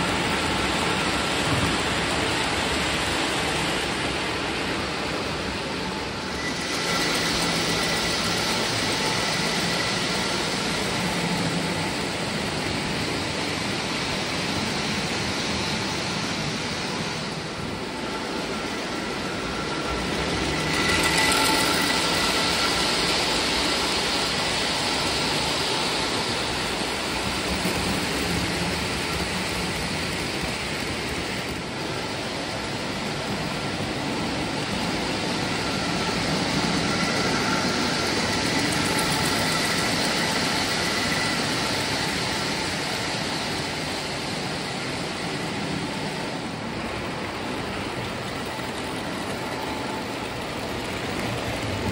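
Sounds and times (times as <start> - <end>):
model locomotive motor whine: 0.0 - 51.9
model train wheels rumbling: 0.0 - 51.9.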